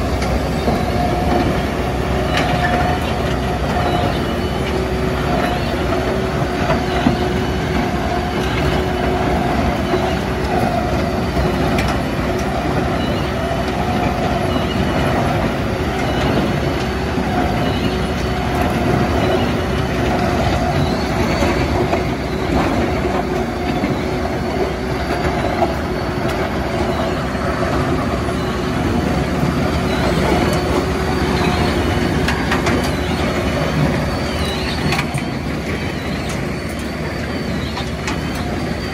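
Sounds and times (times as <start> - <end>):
crusher engine drone: 0.0 - 38.9
excavator diesel engine: 0.0 - 38.9.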